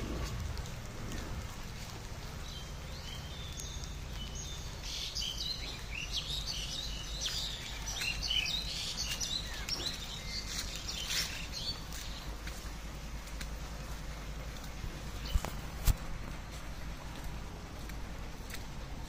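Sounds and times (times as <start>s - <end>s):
birds chirping and calling: 0.0s - 15.8s
low steady rumble: 0.0s - 19.0s.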